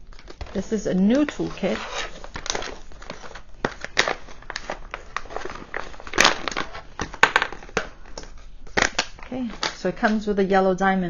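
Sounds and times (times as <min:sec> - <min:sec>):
cellophane crinkling: 0:00.0 - 0:09.9.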